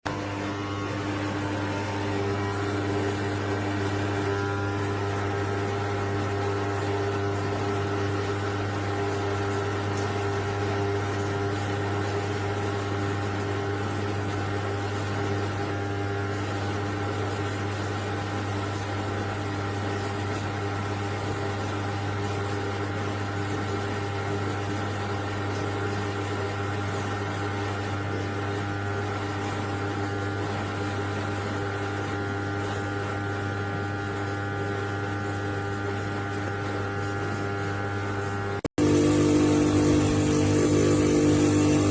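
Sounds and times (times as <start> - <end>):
dishwasher pump motor hum: 0.0 - 41.9.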